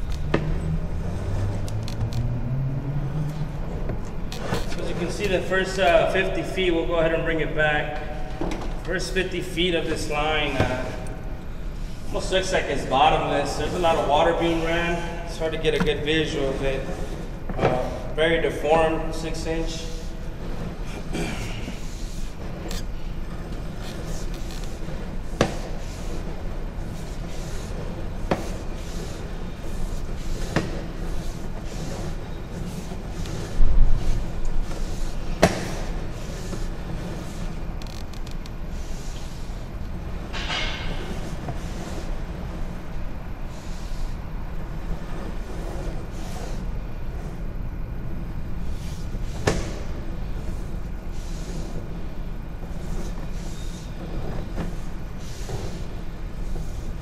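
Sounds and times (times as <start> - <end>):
machinery rumbling: 0.0 - 57.0.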